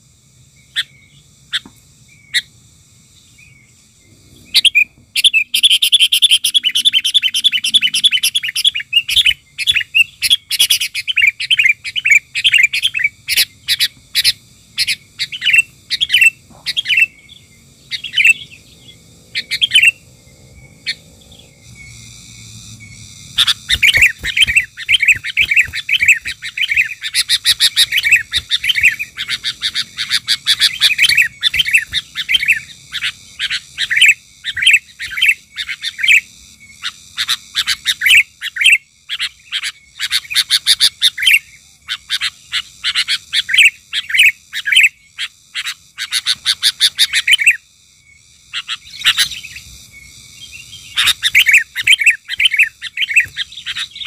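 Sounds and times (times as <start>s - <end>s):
birds chattering calls: 0.0s - 54.0s.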